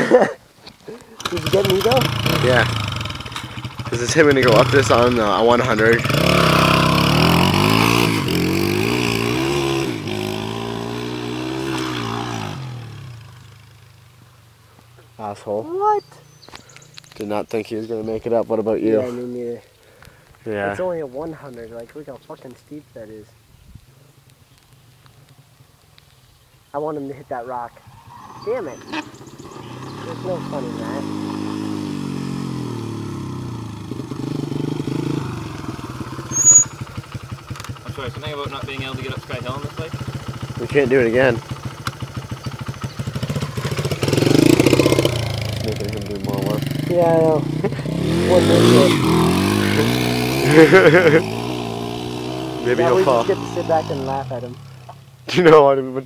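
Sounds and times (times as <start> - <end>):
dirt bike engine climbing hill: 0.0 - 19.6, 27.1 - 56.0.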